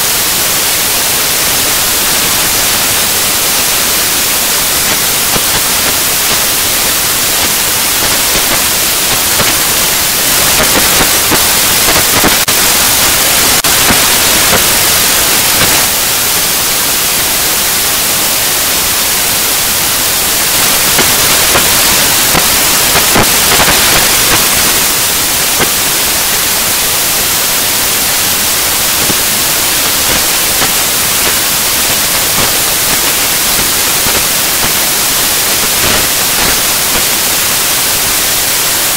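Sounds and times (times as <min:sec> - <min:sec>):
static-like hiss: 0:00.0 - 0:38.9.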